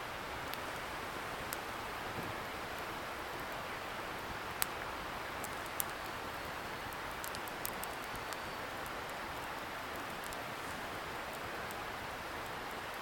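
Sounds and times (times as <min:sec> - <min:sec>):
bonfire crackling and popping: 0:00.0 - 0:13.0
distant river hiss: 0:00.0 - 0:13.0.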